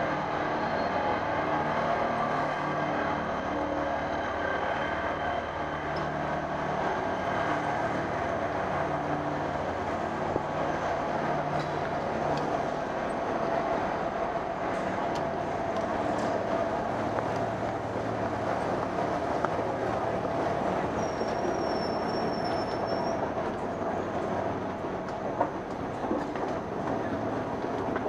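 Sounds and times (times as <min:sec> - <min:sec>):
city street noise: 0:00.0 - 0:28.0.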